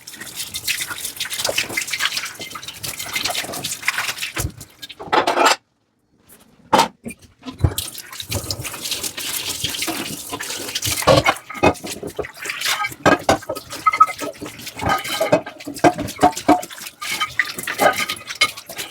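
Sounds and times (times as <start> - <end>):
dish scrubbing: 0.0 - 5.6, 7.4 - 18.9
tap water splashing over dishes: 0.0 - 5.6, 7.1 - 18.9.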